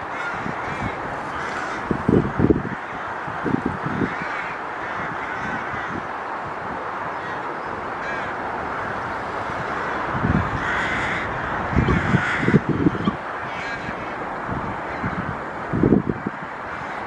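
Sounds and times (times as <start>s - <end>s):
harsh drawn-out bird calls: 0.0s - 6.4s, 7.0s - 17.0s
wind thumps on microphone: 0.0s - 7.4s, 8.0s - 17.0s.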